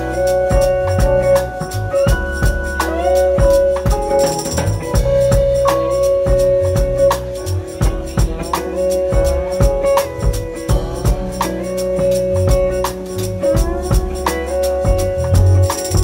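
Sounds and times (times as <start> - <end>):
bass line: 0.0 - 16.0
drums keeping a beat: 0.0 - 16.0
live band playing: 0.0 - 16.0.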